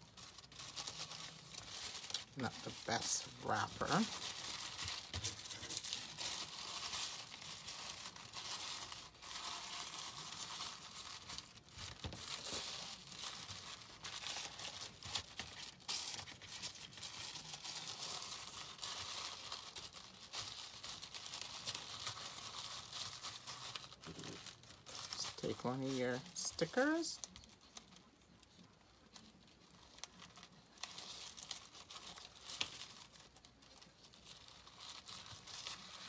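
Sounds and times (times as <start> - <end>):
tissue paper crinkling: 0.0 - 36.0.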